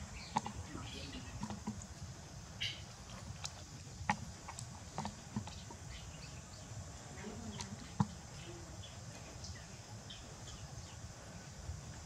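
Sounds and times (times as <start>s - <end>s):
monkeys handling and eating fruit: 0.0s - 12.0s.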